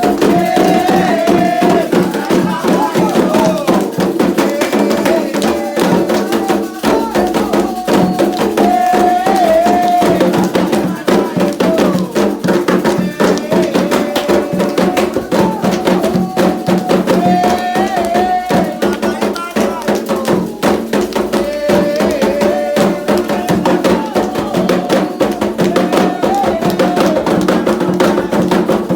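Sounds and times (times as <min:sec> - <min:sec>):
hand drums beating fast rhythm: 0:00.0 - 0:28.9
voices singing a chant: 0:00.0 - 0:28.9.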